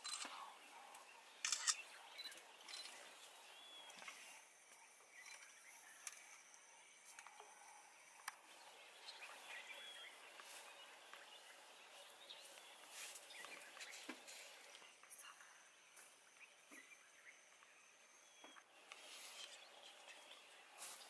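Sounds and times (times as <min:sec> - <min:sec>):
low outdoor hiss: 0:00.0 - 0:21.0.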